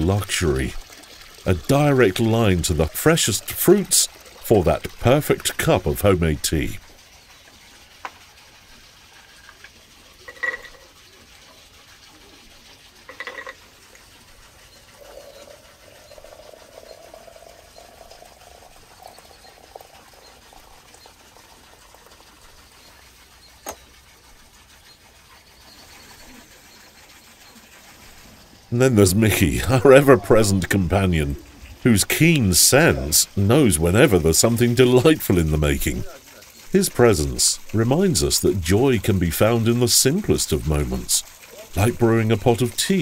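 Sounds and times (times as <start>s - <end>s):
liquid pouring into vessel: 0.0s - 43.0s.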